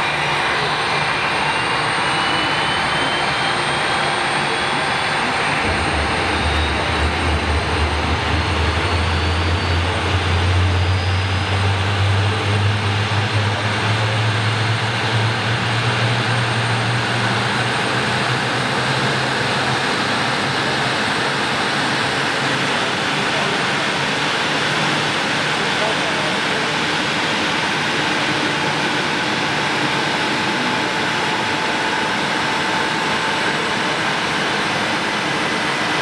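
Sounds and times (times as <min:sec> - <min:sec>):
high turbine whine: 0:00.0 - 0:36.0
jet engines idling: 0:00.0 - 0:36.0.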